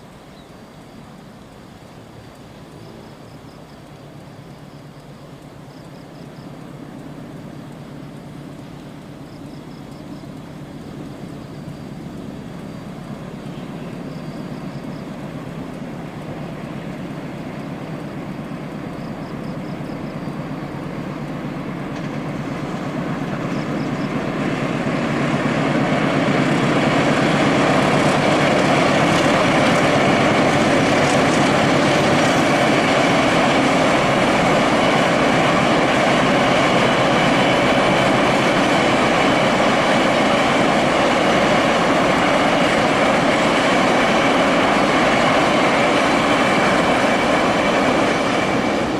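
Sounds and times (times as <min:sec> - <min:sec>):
train rumbling past: 0:00.0 - 0:48.9.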